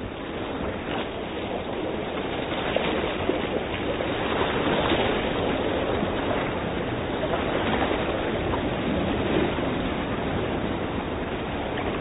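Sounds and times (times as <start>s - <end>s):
surf breaking over rocks: 0.0s - 12.0s.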